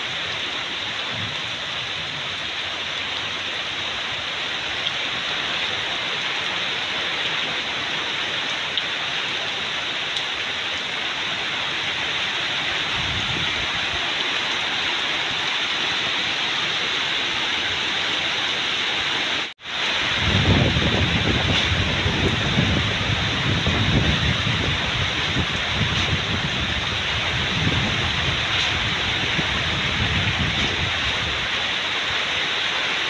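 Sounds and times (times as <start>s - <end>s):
rain falling on foliage: 0.0s - 33.0s.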